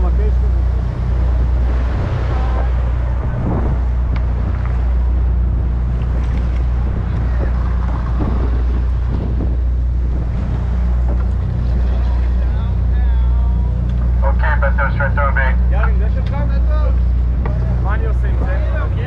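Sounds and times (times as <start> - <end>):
wind buffeting microphone: 0.0 - 14.3, 15.7 - 19.0
boat engine droning: 0.0 - 19.0.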